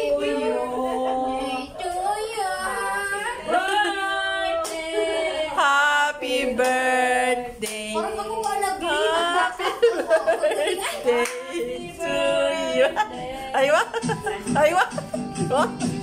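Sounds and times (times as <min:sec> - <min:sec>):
women singing: 0:00.0 - 0:16.0.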